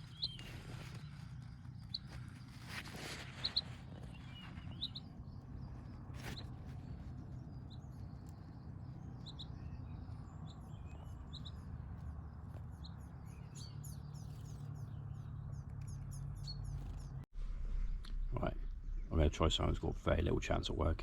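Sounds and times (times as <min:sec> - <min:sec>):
small birds chirping: 0:00.0 - 0:21.0
steady low rumble: 0:03.8 - 0:21.0.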